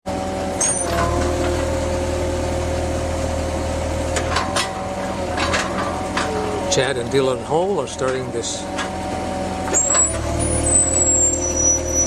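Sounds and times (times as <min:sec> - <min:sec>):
drill rig engine hum: 0:00.1 - 0:12.0
hydraulic whine: 0:00.1 - 0:12.0.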